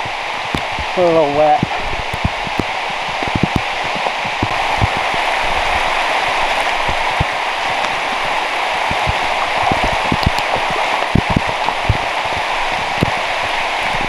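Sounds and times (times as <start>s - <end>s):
heavy pouring rain: 0.0s - 14.0s.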